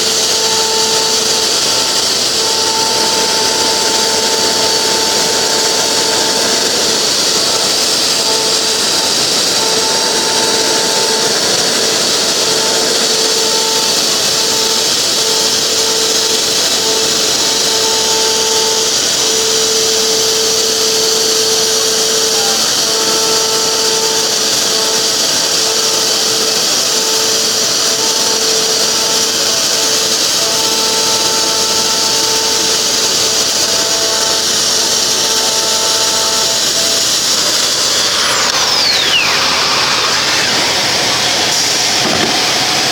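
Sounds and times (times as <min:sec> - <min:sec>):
router spindle hiss and whine: 0:00.0 - 0:42.9.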